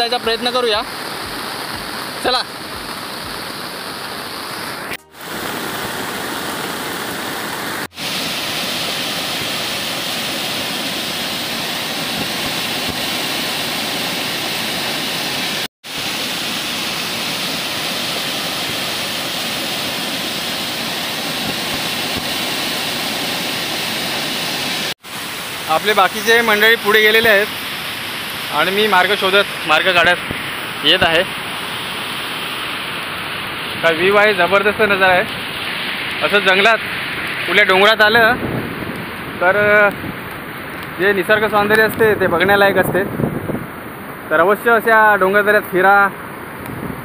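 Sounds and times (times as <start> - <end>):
rushing river and waterfalls: 0.0 - 47.0.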